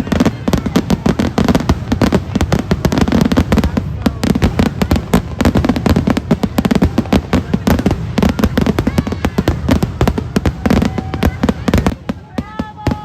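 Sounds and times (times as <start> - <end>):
rapid fireworks bangs: 0.0 - 13.0.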